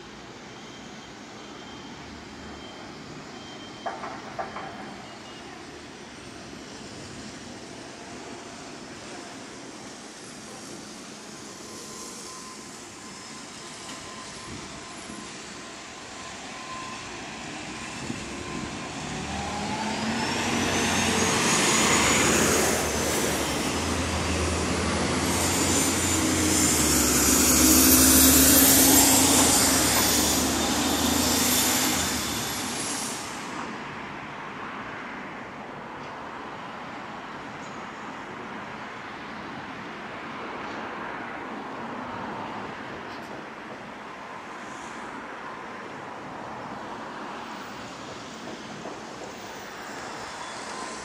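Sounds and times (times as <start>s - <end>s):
street background noise: 0.0s - 51.0s.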